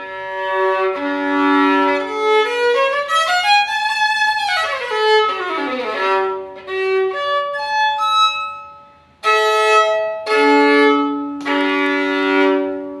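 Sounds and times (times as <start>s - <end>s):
solo violin playing: 0.0s - 13.0s.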